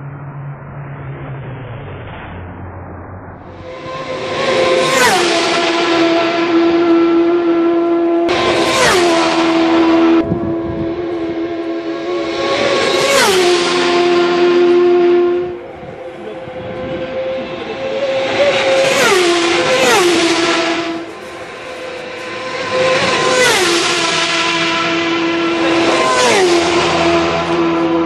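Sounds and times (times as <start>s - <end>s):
racing motorcycles passing: 0.0s - 28.0s.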